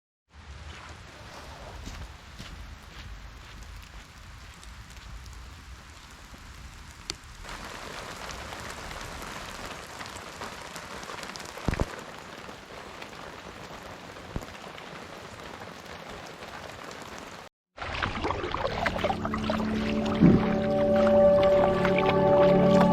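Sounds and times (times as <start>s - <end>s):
steady rain falling: 0.3s - 17.5s, 20.0s - 22.9s.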